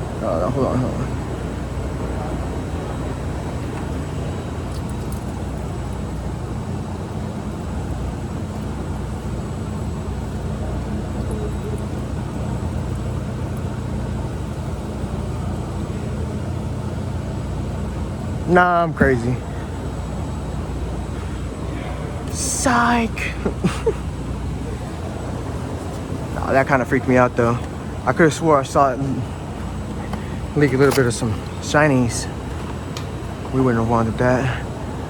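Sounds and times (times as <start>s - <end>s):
low mechanical hum: 0.0s - 35.0s
noisy hiss: 0.0s - 35.0s.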